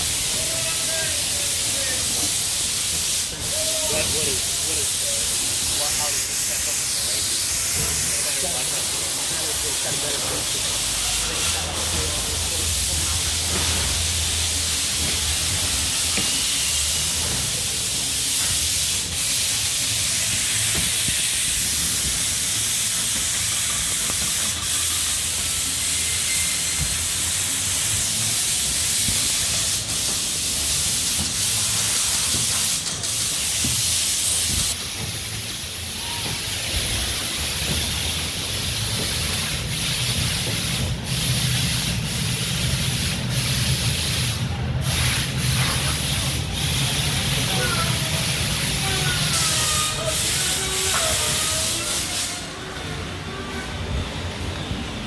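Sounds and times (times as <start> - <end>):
factory hissing noise: 0.0 - 55.0.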